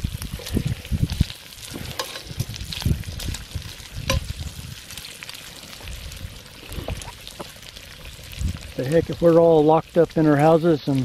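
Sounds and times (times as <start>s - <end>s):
bacon sizzling and popping: 0.0s - 11.0s.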